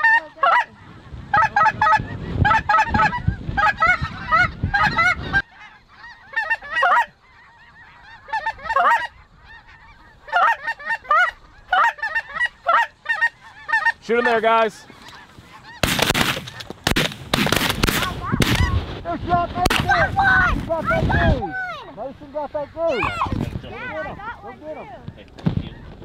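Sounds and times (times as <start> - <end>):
geese honking: 0.0 - 16.8, 19.4 - 26.0.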